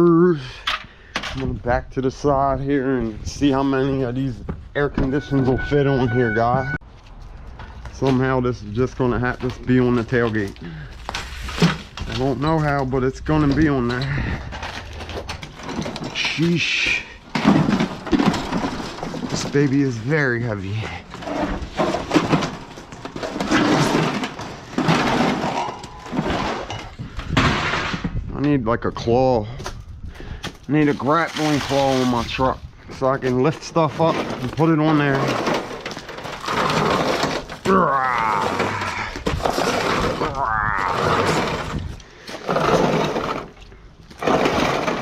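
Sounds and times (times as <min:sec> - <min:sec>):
heavy unit scraping and knocking: 0:01.3 - 0:06.9, 0:07.5 - 0:29.2, 0:30.7 - 0:45.0.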